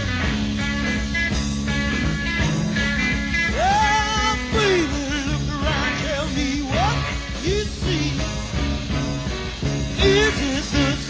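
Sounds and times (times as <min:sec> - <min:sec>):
psychedelic rock band playing live: 0:00.0 - 0:11.0.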